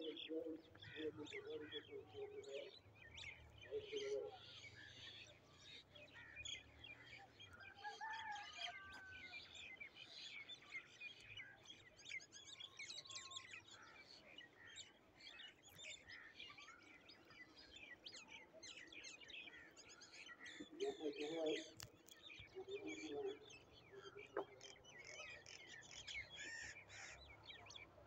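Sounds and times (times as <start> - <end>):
small birds chirping: 0.0 - 7.9, 8.9 - 28.0.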